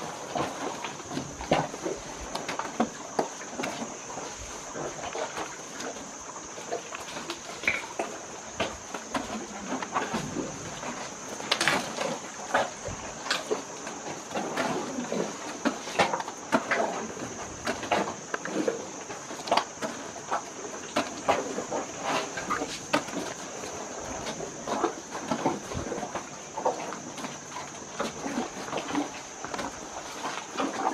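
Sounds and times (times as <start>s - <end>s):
elephants rummaging in baskets: 0.0s - 30.9s.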